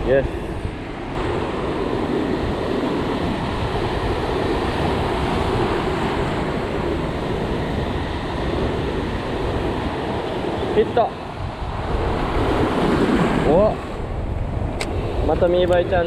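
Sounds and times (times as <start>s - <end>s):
sea waves washing: 0.0s - 16.0s
wind on microphone: 0.0s - 16.0s.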